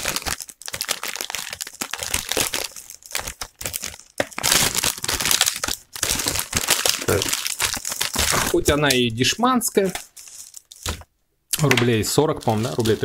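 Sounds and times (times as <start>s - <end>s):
plastic wrapper crinkling: 0.0s - 11.2s, 11.9s - 13.0s.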